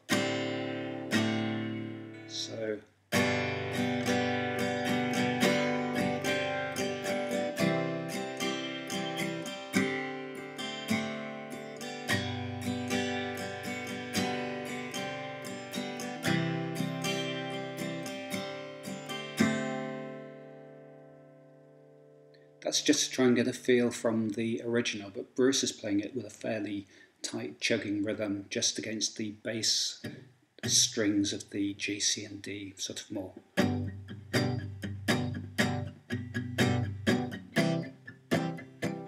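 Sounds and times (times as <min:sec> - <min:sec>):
acoustic guitar strumming chords: 0:00.0 - 0:24.9, 0:30.0 - 0:31.4, 0:33.4 - 0:39.0.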